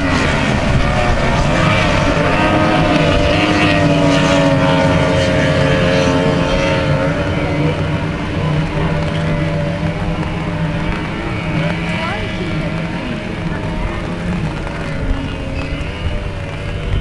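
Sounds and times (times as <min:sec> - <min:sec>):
racing boat engines droning: 0:00.0 - 0:17.0.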